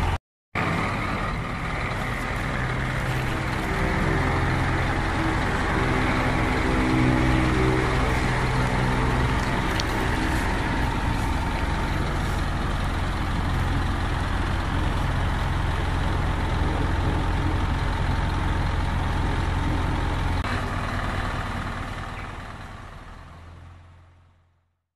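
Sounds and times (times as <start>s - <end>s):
diesel engine idling: 0.0s - 24.6s.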